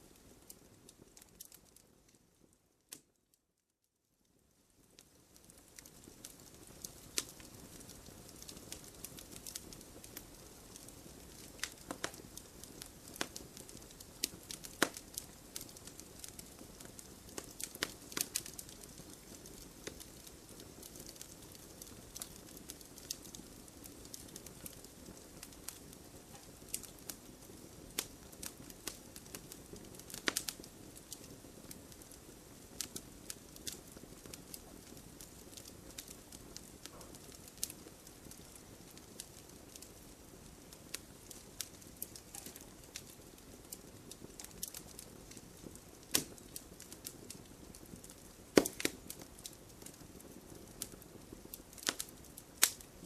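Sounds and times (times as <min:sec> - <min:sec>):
wood fire crackling: 0:00.0 - 0:03.5, 0:04.2 - 0:53.0.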